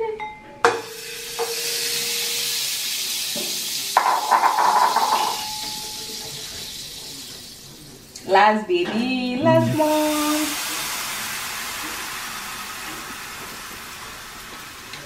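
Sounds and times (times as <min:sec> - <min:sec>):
butter sizzling in frying pan: 0:00.8 - 0:08.2, 0:09.8 - 0:15.0.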